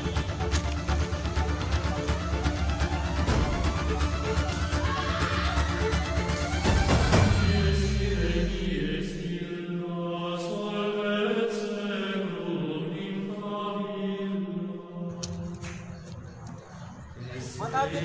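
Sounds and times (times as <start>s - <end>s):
chant-like long held notes: 0.0s - 18.0s.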